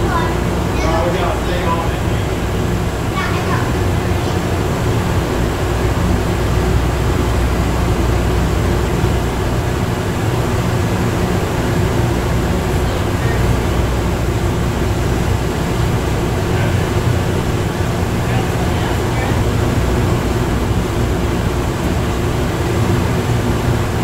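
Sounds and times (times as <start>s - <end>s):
train car low rumble and hum: 0.0s - 24.0s.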